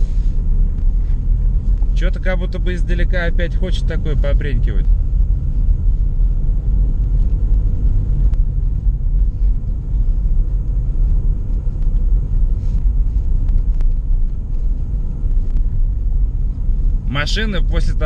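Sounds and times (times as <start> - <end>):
suspension clicks: 0.0 - 17.1
car tyre and engine rumble: 0.0 - 18.0.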